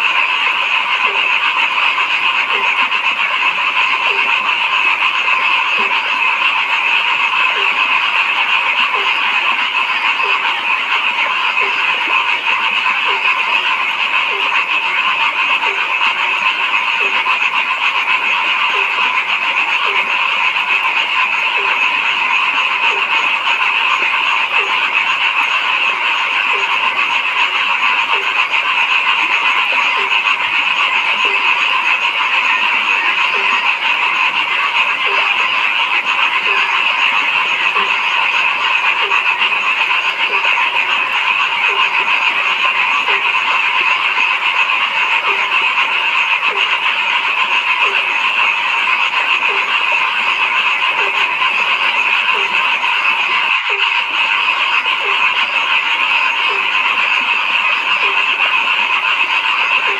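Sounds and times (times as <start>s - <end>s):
chorus of frogs calling: 0.0s - 59.9s
deeper frog croak: 0.0s - 59.9s.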